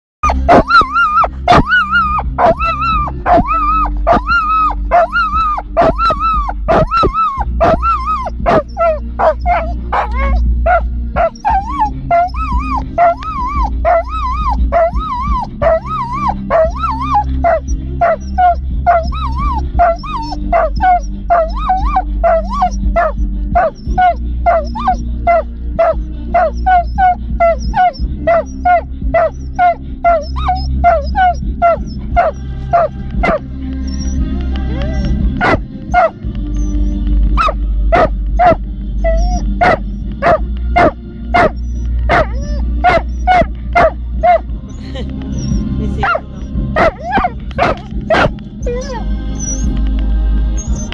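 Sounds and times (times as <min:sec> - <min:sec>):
dog yelping and whining: 0:00.2 - 0:49.8, 0:50.6 - 0:50.9
low rumble: 0:00.3 - 0:50.9.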